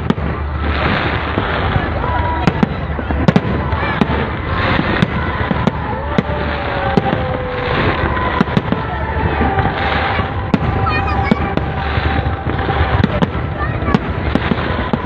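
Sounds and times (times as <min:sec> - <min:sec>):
fireworks bursting and crackling: 0:00.0 - 0:15.0
large crowd noise: 0:00.0 - 0:15.0.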